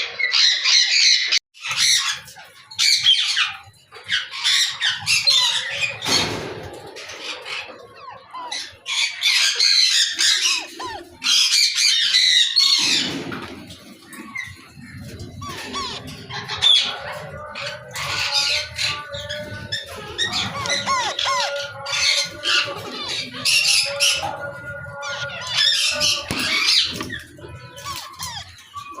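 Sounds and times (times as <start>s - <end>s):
parakeet squawking: 0.0s - 6.3s, 7.0s - 13.2s, 14.0s - 29.0s.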